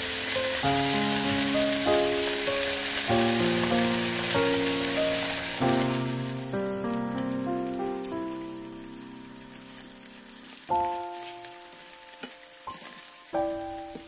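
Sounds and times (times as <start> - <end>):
steaks sizzling in frying pan: 0.0 - 14.0.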